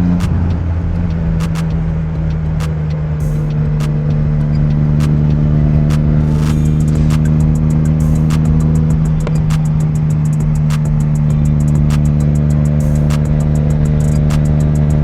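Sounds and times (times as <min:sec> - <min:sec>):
motorcycle engine running: 0:00.0 - 0:15.0
sharp clicks: 0:00.2 - 0:15.0.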